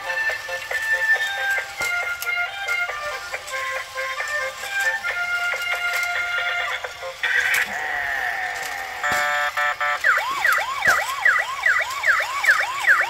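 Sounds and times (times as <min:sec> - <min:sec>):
warbling toy siren: 0:00.0 - 0:13.0.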